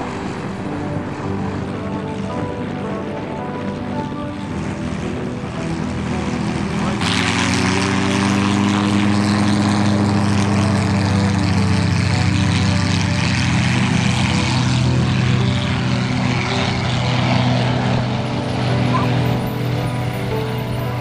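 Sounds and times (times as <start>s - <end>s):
propeller plane engine drone: 0.0s - 21.0s.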